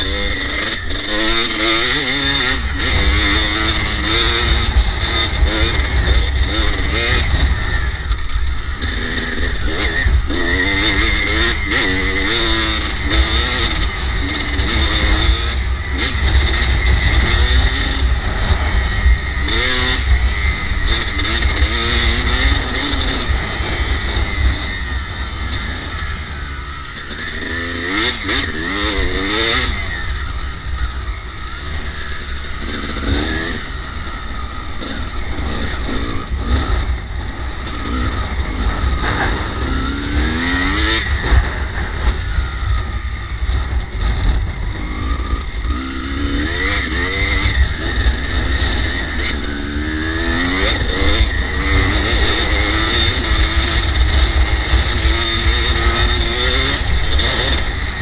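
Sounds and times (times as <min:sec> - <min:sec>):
dirt bike engine revving: 0:00.0 - 0:58.0
wind rumble on microphone: 0:02.3 - 0:26.9, 0:29.0 - 0:58.0.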